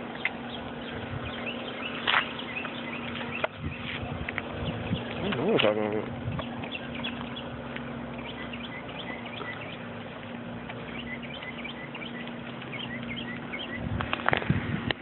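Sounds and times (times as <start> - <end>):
small birds chirping: 0.0 - 14.5
outdoor background noise: 0.0 - 15.0
steady low hum: 0.0 - 15.0.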